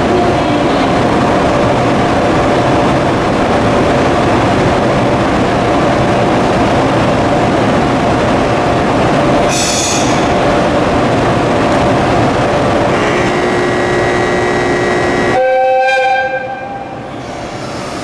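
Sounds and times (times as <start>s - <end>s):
electric locomotive whine: 0.0s - 18.0s.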